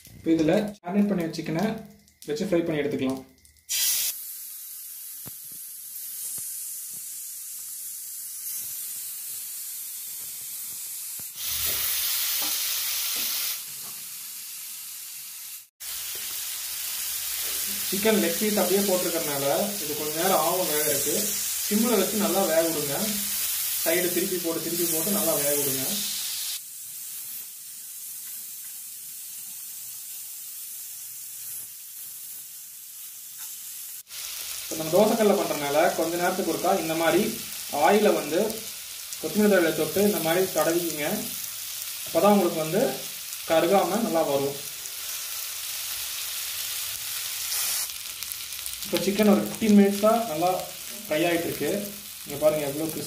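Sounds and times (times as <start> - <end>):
chicken sizzling in oil: 3.6 - 53.0.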